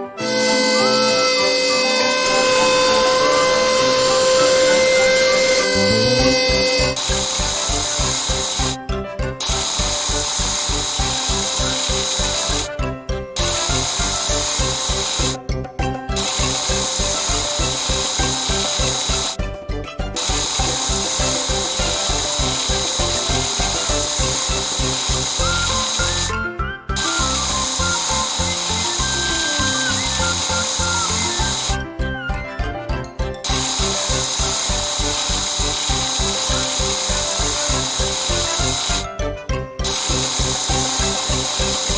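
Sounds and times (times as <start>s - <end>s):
cartoon drill and sander buzzing: 0.2s - 8.8s, 9.4s - 12.8s, 13.4s - 15.4s, 16.1s - 19.4s, 20.2s - 31.9s, 33.4s - 39.1s, 39.8s - 41.9s
music with fast beat: 2.2s - 8.8s, 9.4s - 26.4s, 27.0s - 31.9s, 33.4s - 39.2s, 39.8s - 41.9s.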